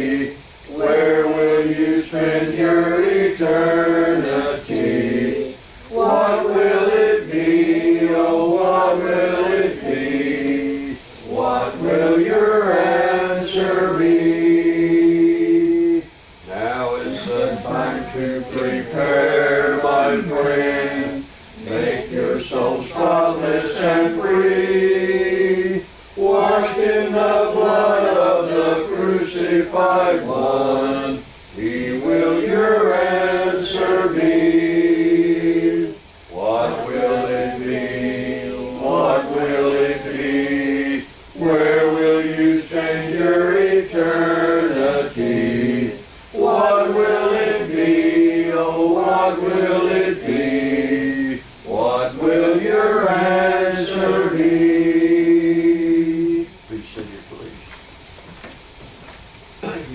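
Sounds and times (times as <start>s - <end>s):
congregation singing a hymn: 0.0s - 57.2s.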